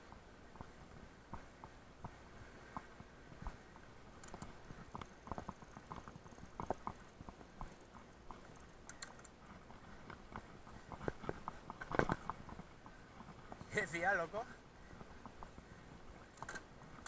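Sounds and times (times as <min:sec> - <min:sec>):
bike clicking and knocking on rocks: 0:00.0 - 0:14.2.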